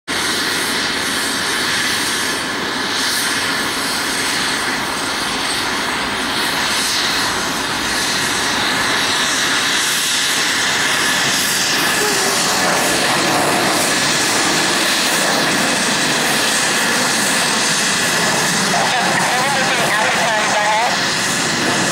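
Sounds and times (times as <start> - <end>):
jet engines at takeoff thrust: 0.1 - 21.9.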